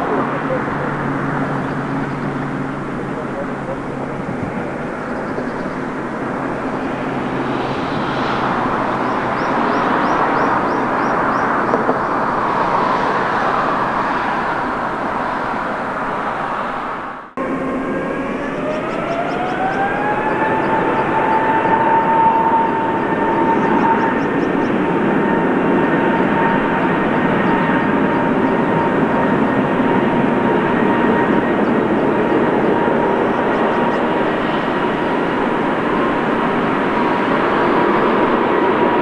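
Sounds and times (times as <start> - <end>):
jet engines spooling up: 0.0 - 39.0
loud jet noise: 0.0 - 39.0.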